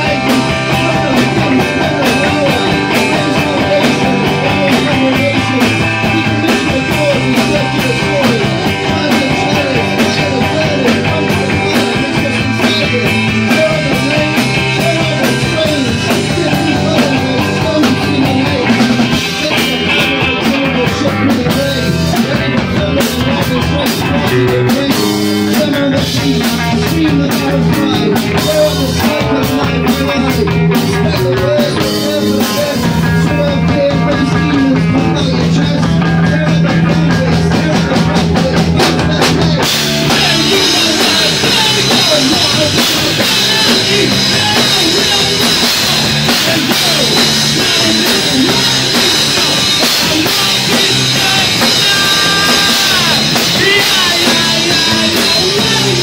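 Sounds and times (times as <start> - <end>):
bass guitar: 0.0 - 56.0
drum kit: 0.0 - 56.0
electric guitar: 0.0 - 56.0.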